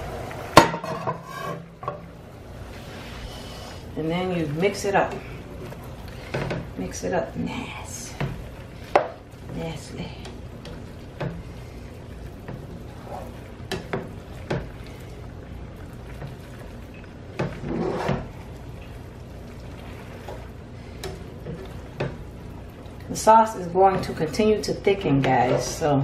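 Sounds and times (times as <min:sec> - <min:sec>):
low steady hum: 0:00.0 - 0:26.0
utensil scraping in a pan: 0:00.6 - 0:02.0, 0:02.6 - 0:22.3, 0:23.1 - 0:26.0.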